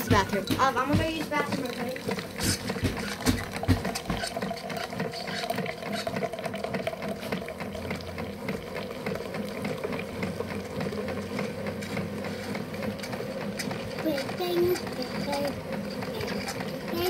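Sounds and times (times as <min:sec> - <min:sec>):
coffee brewer buzzing rattle: 0:00.0 - 0:17.0.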